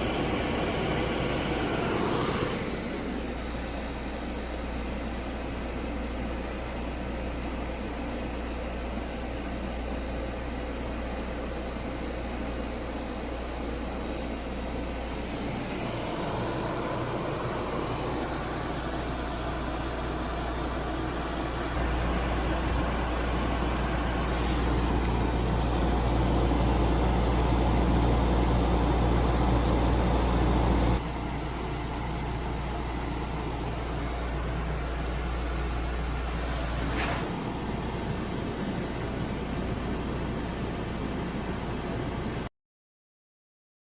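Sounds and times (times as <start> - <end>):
dehumidifier running: 0.0 - 42.4
faint high whine: 0.0 - 42.5.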